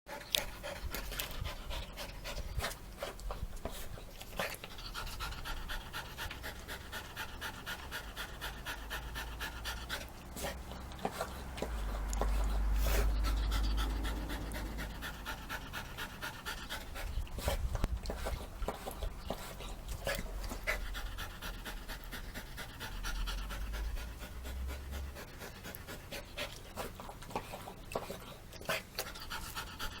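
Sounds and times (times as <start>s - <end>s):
dog lapping water: 0.2s - 30.0s.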